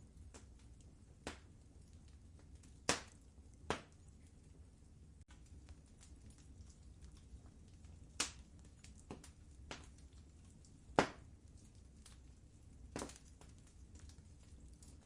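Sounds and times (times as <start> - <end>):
fire crackling: 0.0 - 15.0
low steady rumble: 0.0 - 15.0.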